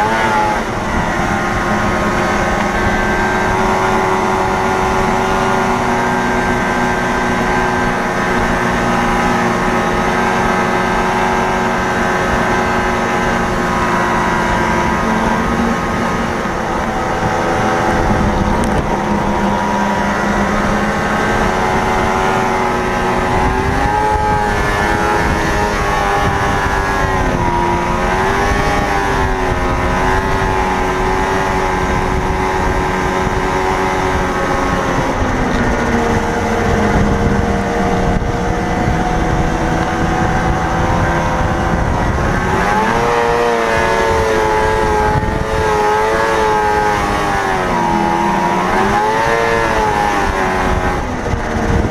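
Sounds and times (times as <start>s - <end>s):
snowmobile engine revving: 0.0s - 51.9s.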